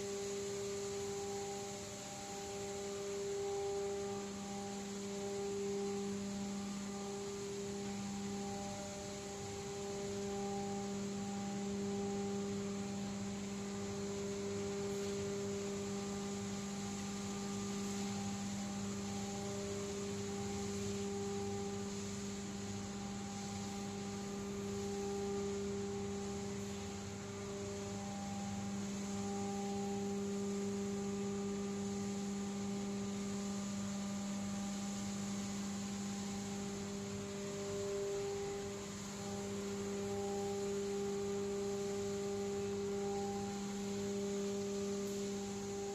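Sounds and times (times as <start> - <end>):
machinery electric hum: 0.0 - 45.9.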